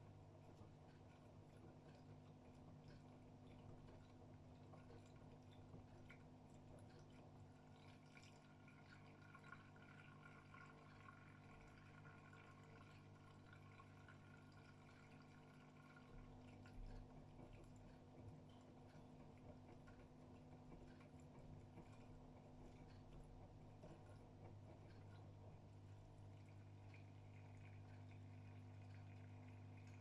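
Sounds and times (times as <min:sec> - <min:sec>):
water running in washing machine: 0:00.0 - 0:30.0.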